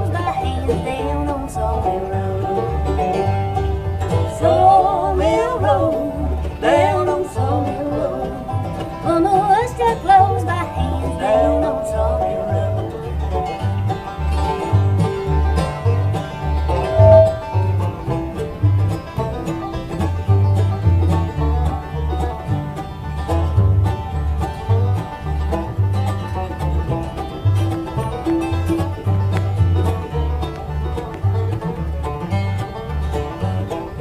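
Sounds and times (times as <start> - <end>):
bluegrass band playing: 0.0 - 34.0.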